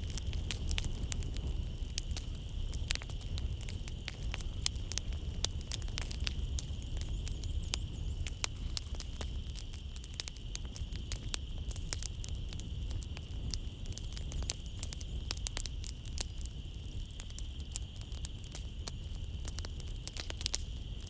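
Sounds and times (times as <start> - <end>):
night insects trilling: 0.0 - 21.0
wood fire crackling: 0.0 - 21.0.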